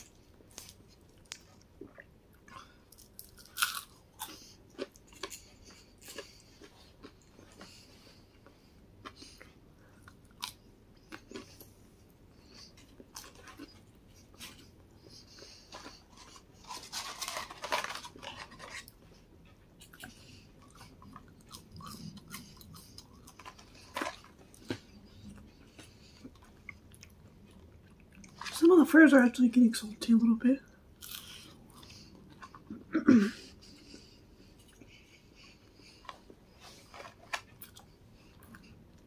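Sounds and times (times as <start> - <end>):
chewing and crunching food: 0.0 - 28.9, 30.6 - 39.0.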